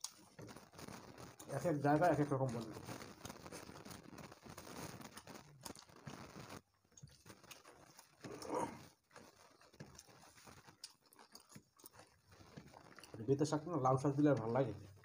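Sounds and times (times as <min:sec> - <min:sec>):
fingers mixing food on plates: 0:00.0 - 0:15.0
soft chewing and mouth clicks: 0:00.0 - 0:15.0.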